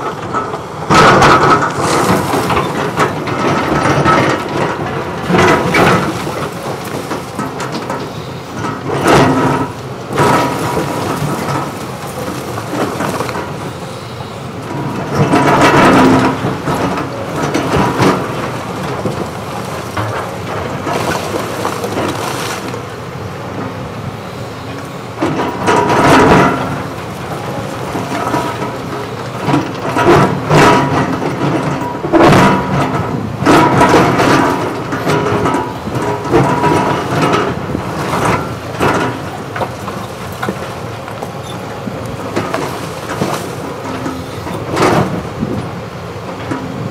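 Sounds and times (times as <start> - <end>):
excavator diesel engine running: 0.0 - 46.9
concrete rubble crashing and scraping: 0.3 - 23.0, 25.3 - 45.6.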